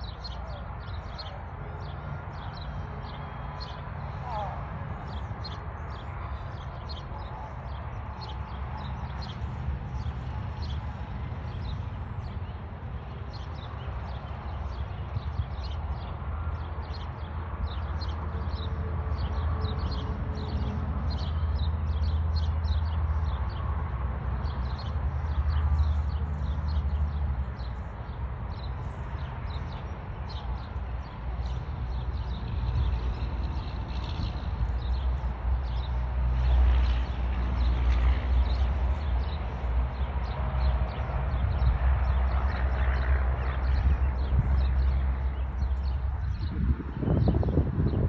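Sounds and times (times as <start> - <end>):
small birds chirping rapidly: 0.0 - 48.0.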